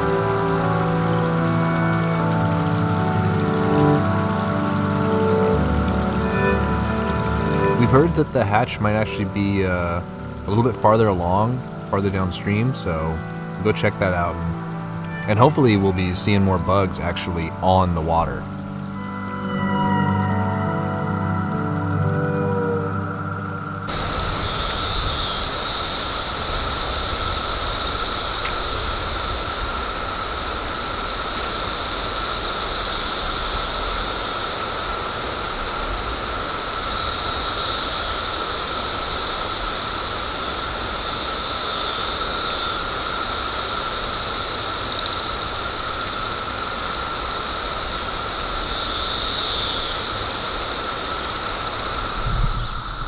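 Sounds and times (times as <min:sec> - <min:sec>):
cicadas droning: 0:00.0 - 0:53.0.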